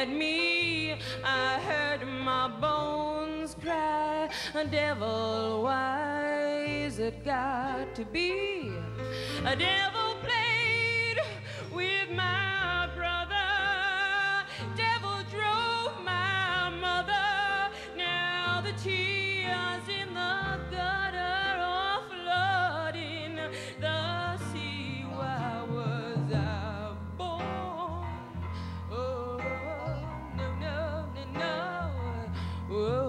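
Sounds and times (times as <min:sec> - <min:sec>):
instrumental backing: 0:00.0 - 0:33.0
woman singing a ballad: 0:00.0 - 0:33.0.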